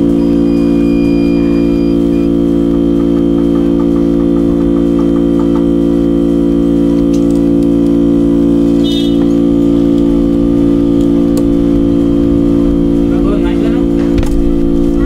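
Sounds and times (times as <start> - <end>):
loud low-pitched hum: 0.0 - 15.0.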